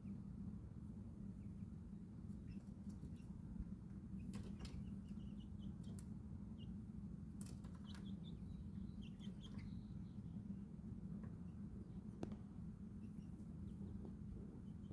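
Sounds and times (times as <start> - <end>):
baby chicks peeping: 0.0 - 14.9
steady low hum: 0.0 - 14.9.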